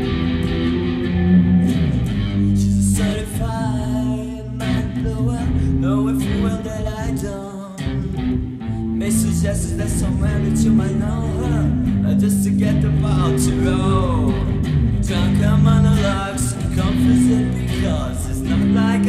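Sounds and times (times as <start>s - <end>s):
bending guitar melody: 0.0s - 19.0s
electric guitar and bass rock: 0.0s - 19.0s.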